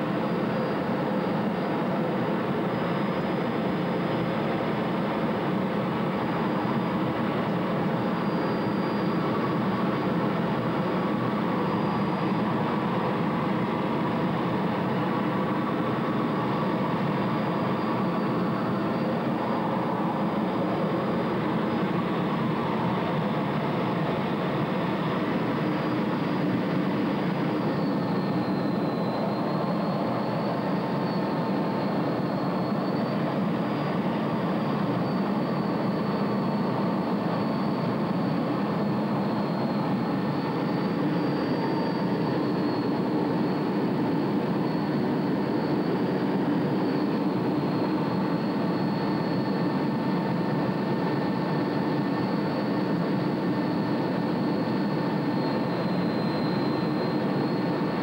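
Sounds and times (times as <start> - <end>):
faint high whine: 0.0 - 58.0
jet engine roar: 8.0 - 58.0.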